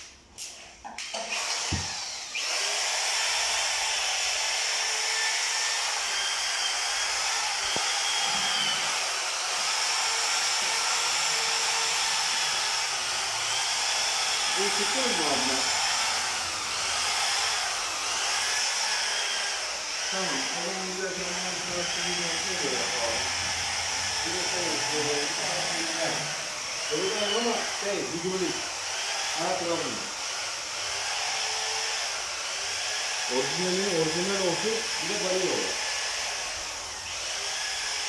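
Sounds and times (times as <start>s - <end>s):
power tool whirring: 0.0s - 38.0s.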